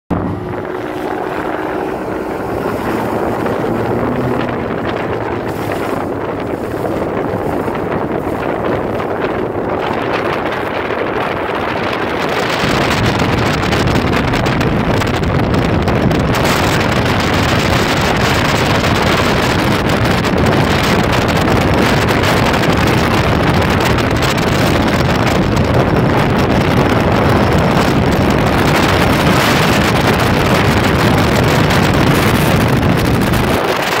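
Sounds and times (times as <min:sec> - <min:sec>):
outboard motor drone: 0:00.1 - 0:34.0
wind buffeting microphone: 0:00.1 - 0:34.0.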